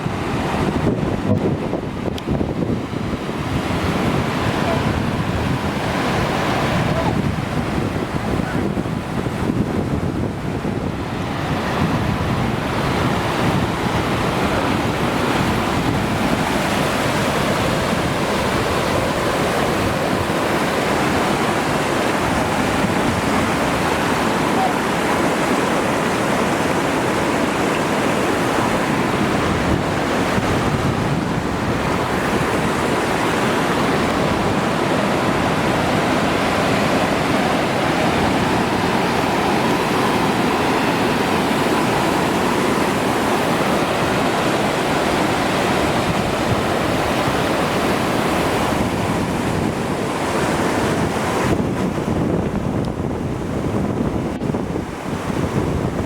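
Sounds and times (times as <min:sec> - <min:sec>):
waterfall roar: 0:00.0 - 0:53.6.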